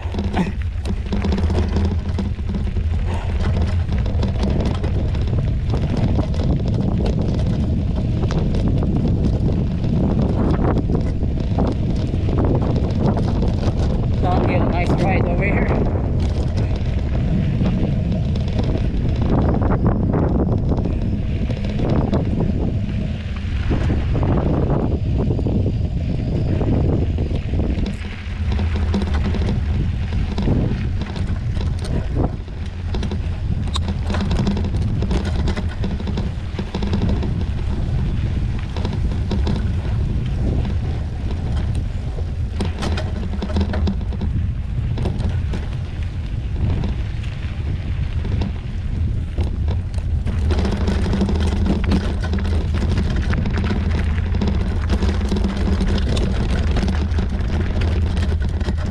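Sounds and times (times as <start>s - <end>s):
bike rattling over rocks: 0.0s - 58.9s
mountain bike rumbling on rocky trail: 0.0s - 58.9s
wind buffeting microphone: 0.0s - 58.9s.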